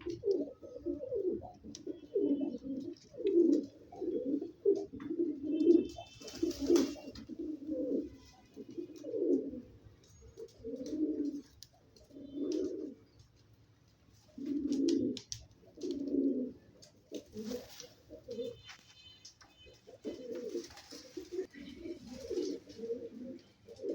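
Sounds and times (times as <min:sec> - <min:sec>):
pigeon cooing: 0:00.0 - 0:09.7, 0:10.4 - 0:13.0, 0:14.4 - 0:18.8, 0:19.7 - 0:23.9.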